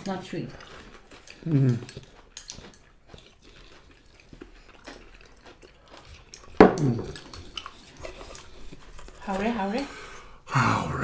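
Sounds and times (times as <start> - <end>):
chewing: 0.0 - 10.4.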